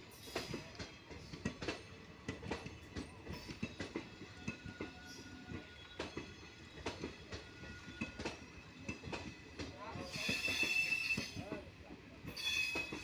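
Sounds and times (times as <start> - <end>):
steady train rumble: 0.0 - 13.0
train wheels knocking over joints: 0.2 - 13.0.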